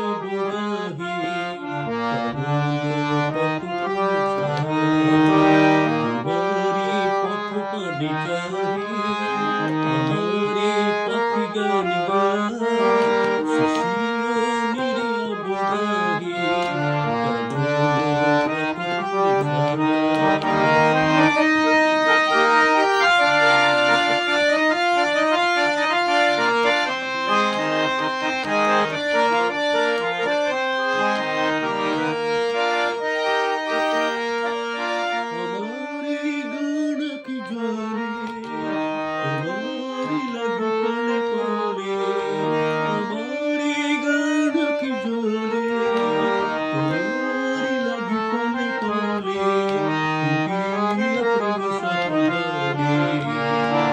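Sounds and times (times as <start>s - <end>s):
harmonium melody: 0.0s - 53.9s.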